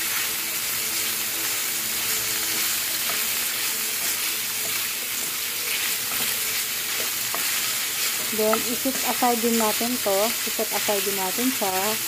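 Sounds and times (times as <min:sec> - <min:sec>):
liver sizzling in a frying pan: 0:00.0 - 0:12.0.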